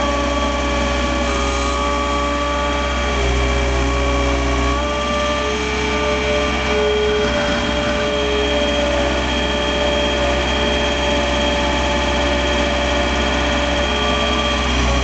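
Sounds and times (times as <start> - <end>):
diesel engine running under load: 0.0 - 15.0
steady whine: 0.0 - 15.0.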